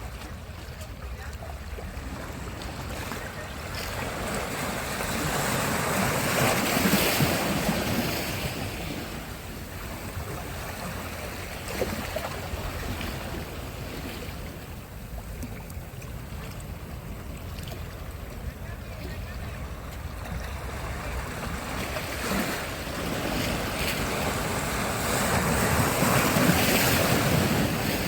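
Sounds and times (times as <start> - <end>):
wind rumble on microphone: 0.0 - 28.0
wave breaking: 1.2 - 14.8, 16.4 - 28.0.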